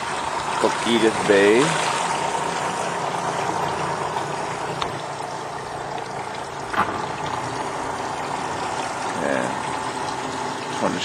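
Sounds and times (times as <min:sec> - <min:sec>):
boat motor running: 0:00.0 - 0:11.0
water rushing along hull: 0:00.0 - 0:11.0.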